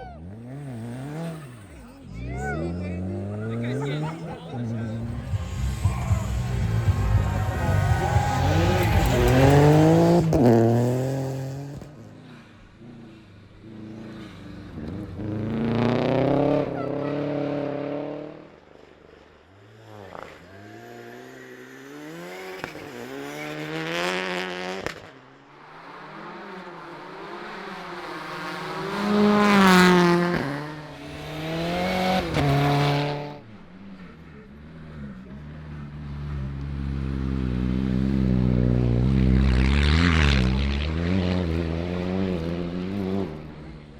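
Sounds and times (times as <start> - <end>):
rally car engines revving past: 0.0 - 43.9.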